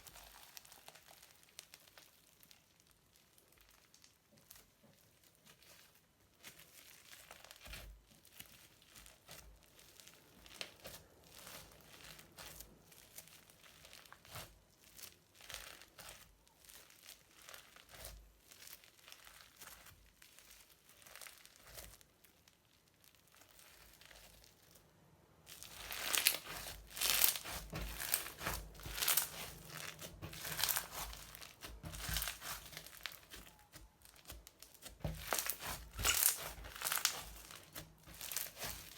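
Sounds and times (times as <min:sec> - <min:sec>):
slime crackling and popping: 0:00.0 - 0:38.9.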